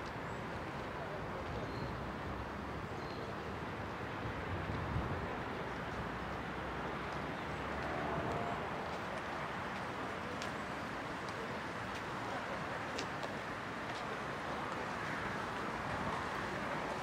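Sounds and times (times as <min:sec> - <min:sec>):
distant traffic hum: 0:00.0 - 0:17.0.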